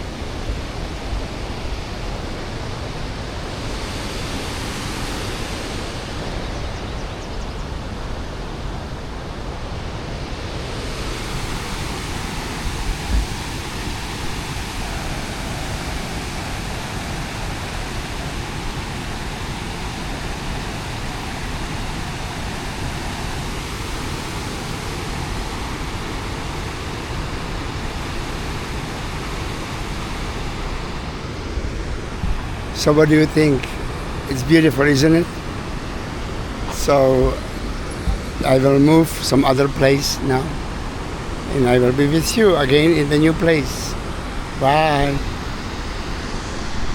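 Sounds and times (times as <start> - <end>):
waterfall rushing: 0.0 - 6.7, 7.8 - 46.9.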